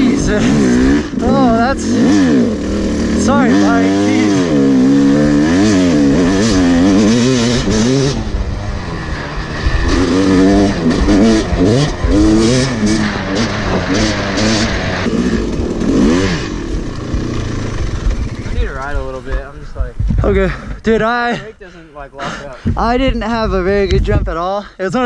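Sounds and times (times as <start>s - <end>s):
dirt bike engine revving: 0.0s - 24.3s.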